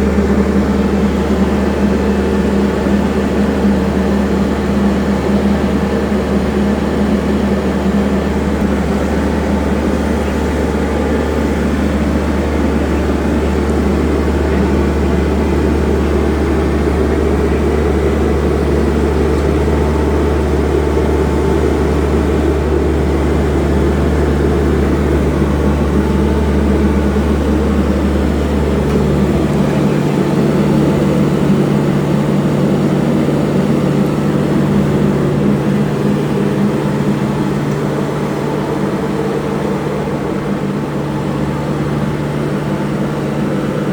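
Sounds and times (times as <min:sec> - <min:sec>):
paving machine droning: 0:00.0 - 0:43.9.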